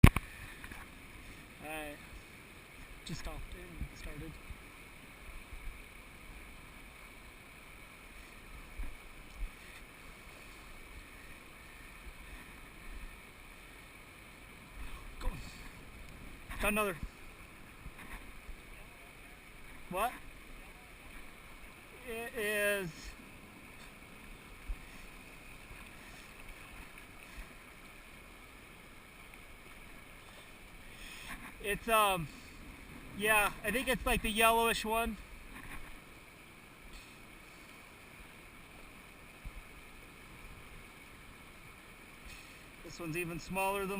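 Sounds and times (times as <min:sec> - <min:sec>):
mountain stream flowing: 0:00.0 - 0:43.9
river rushing: 0:00.0 - 0:43.9.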